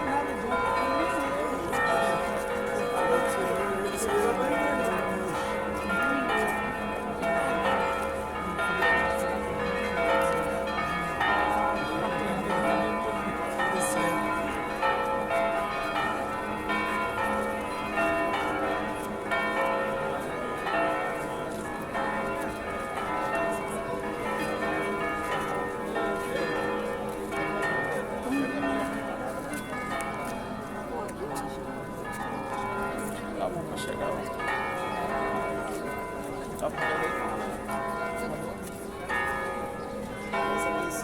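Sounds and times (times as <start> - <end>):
church bells pealing: 0.0 - 41.0.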